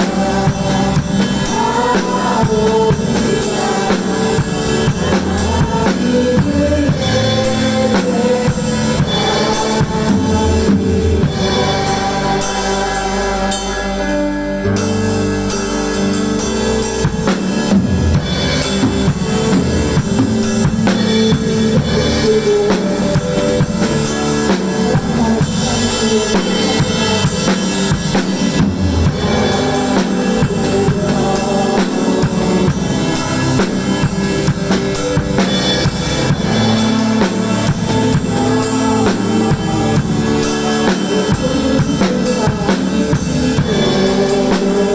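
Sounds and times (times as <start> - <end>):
drum kit playing: 0.0 - 44.9
recorded worship song: 0.0 - 44.9.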